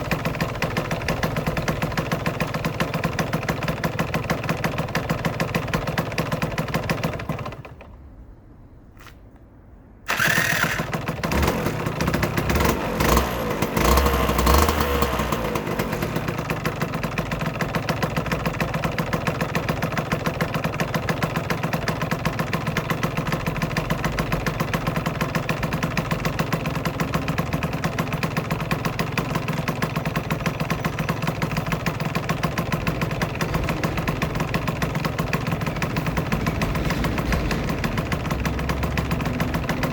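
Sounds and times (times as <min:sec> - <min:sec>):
motorcycle engine idling and revving: 0:00.0 - 0:08.0, 0:10.1 - 0:39.9.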